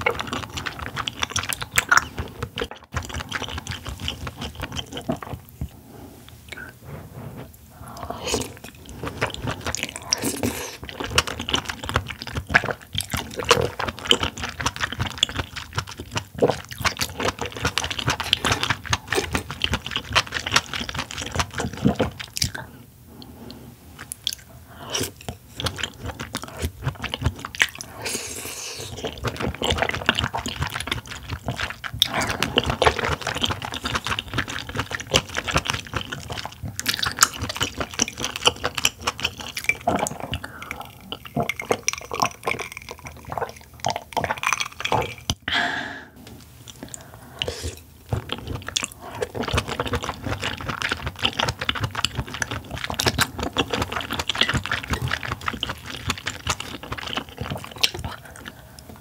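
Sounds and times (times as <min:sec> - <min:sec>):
close chewing with wet mouth sounds: 0:00.0 - 0:06.8, 0:07.8 - 0:45.5, 0:46.4 - 0:59.0.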